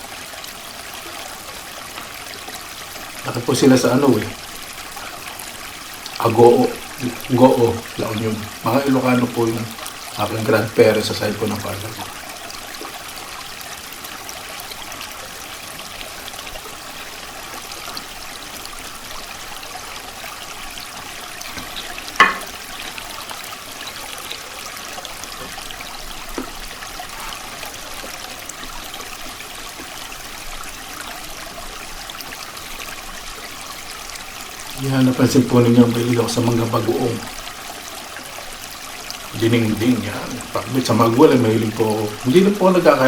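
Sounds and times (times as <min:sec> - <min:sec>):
stream water trickling: 0:00.0 - 0:43.0.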